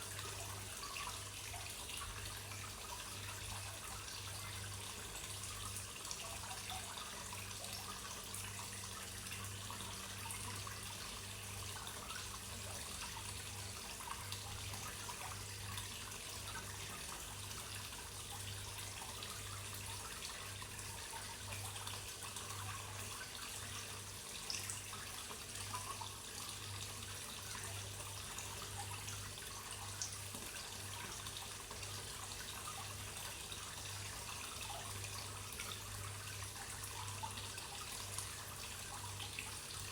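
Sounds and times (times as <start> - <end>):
water trickling into a pond: 0.0 - 39.9.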